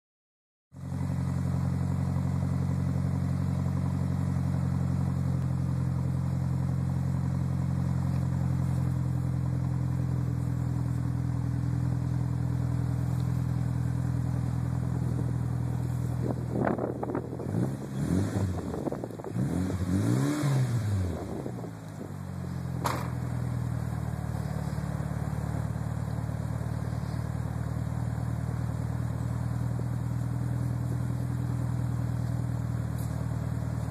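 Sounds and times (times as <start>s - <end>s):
car engine idling and revving: 0.8s - 33.9s.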